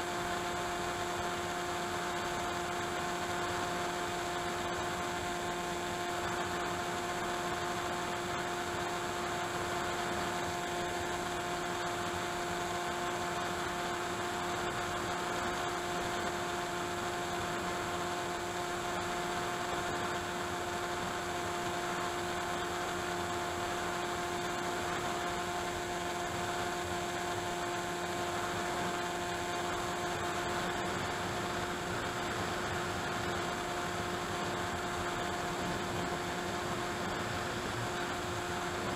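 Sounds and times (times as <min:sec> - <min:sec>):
electric model plane motor drone: 0:00.0 - 0:38.9.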